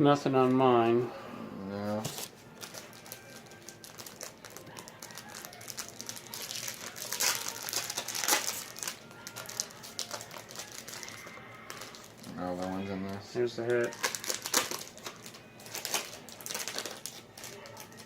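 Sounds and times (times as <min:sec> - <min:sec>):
foil wrappers crinkling: 0:02.0 - 0:18.0.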